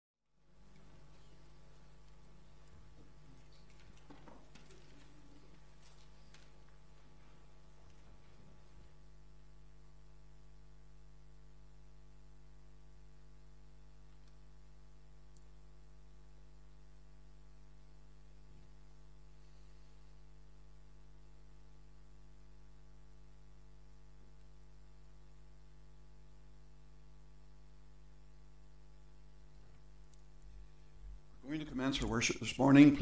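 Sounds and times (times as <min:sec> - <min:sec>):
electrical mains hum: 0:00.4 - 0:33.0.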